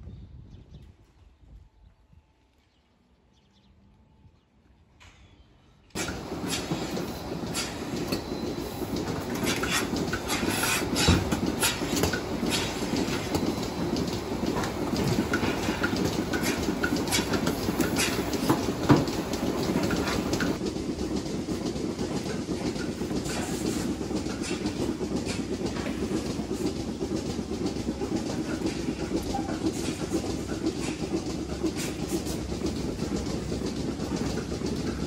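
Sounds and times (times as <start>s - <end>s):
mechanical rumbling and rattling: 4.3s - 35.0s.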